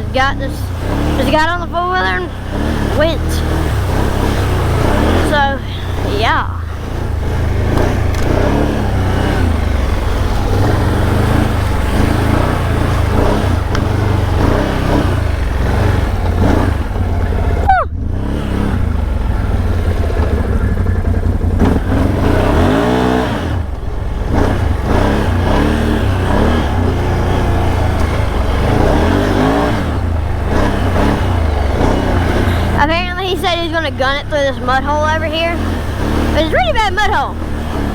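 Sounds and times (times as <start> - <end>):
atv engine revving: 0.0 - 37.9
heavy low rumble: 0.0 - 37.9.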